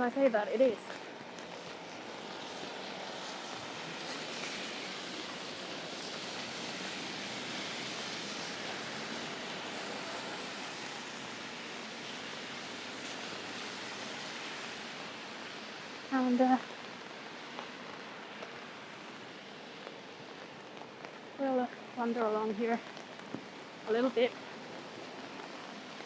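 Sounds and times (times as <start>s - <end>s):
rain on an umbrella: 0.0s - 26.0s
wet city street wash: 0.0s - 26.0s.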